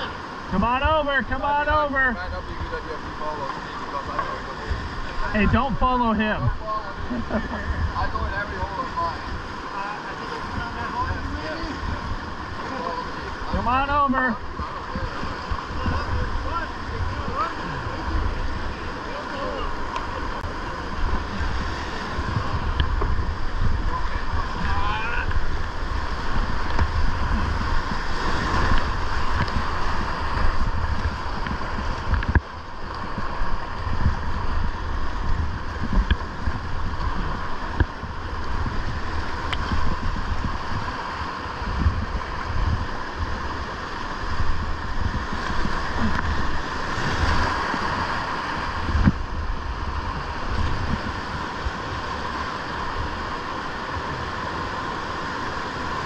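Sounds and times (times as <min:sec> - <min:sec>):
whitewater rapids rushing: 0:00.0 - 0:56.0
wind buffeting the microphone: 0:00.0 - 0:56.0.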